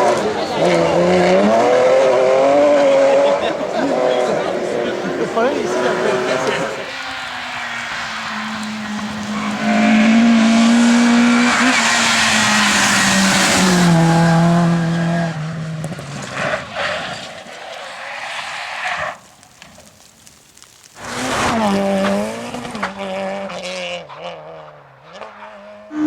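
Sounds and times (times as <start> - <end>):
rally car engine revving: 0.0 - 17.5, 21.0 - 26.0.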